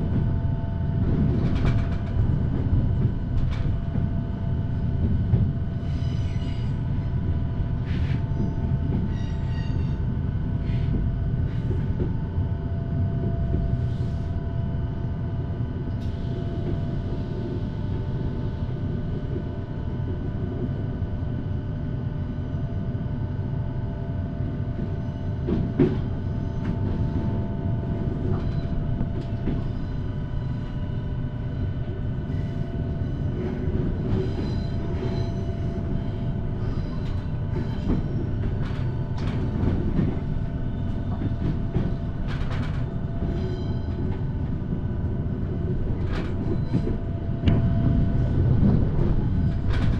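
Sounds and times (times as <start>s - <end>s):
train rumbling: 0.0s - 49.9s.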